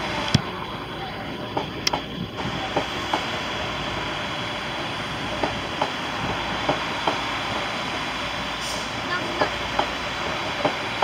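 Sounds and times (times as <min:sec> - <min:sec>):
train running noise: 0:00.0 - 0:11.0.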